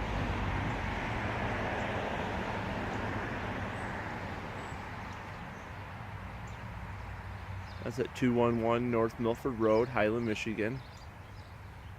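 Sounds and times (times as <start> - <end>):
passing vehicle tyre and road noise: 0.0 - 11.9.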